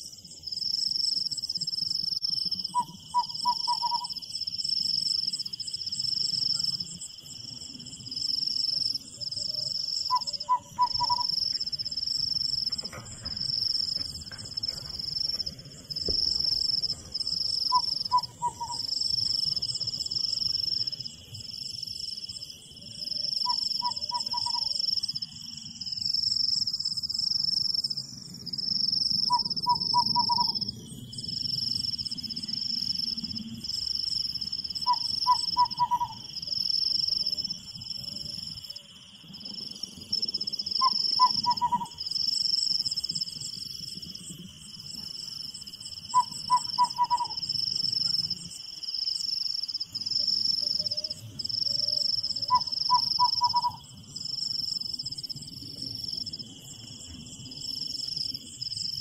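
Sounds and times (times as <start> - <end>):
crickets chirping: 0.0 - 59.0
insect trilling: 0.5 - 59.0.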